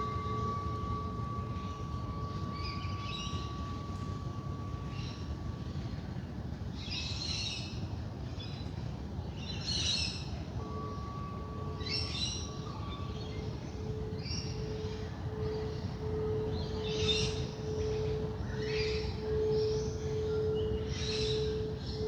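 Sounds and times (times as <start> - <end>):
singing bowl tone: 0.0 - 22.0.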